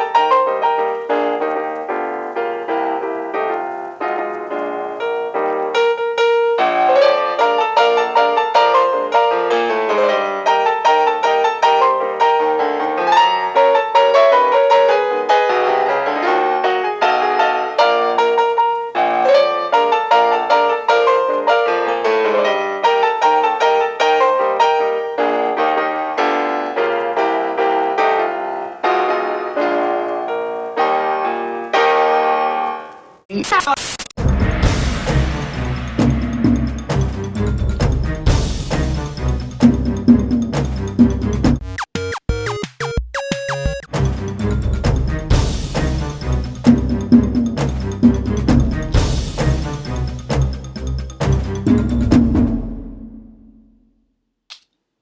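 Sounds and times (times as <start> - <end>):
fast piano music: 0.0 - 33.0, 34.2 - 52.9.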